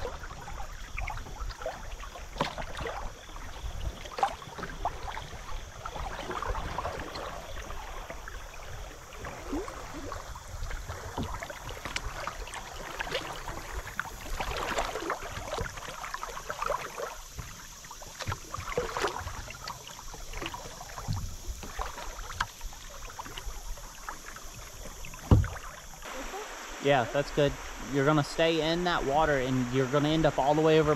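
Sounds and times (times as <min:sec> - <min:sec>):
water lapping against kayak hull: 0:00.0 - 0:30.9.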